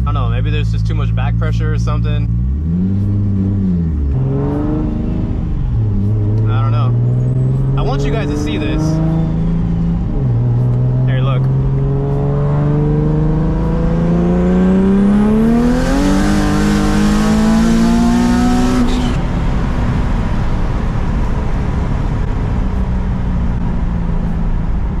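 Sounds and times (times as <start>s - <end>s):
car engine accelerating hard: 0.0s - 25.0s
low road drone: 0.0s - 25.0s.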